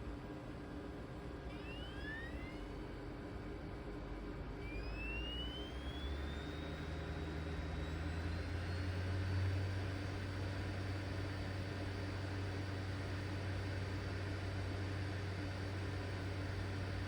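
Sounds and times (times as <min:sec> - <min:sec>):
cd drive spinning whine: 0:01.2 - 0:03.5, 0:04.5 - 0:17.0.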